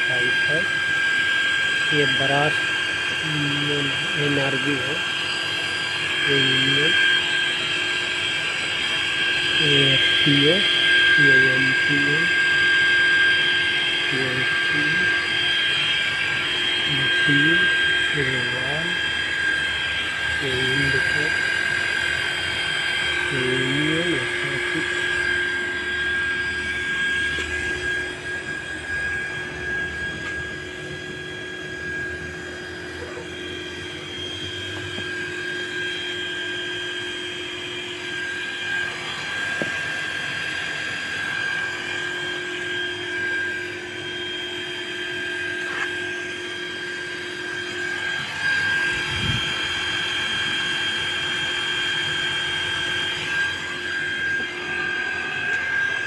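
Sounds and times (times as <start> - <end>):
compressor motor whining: 0.0 - 56.0.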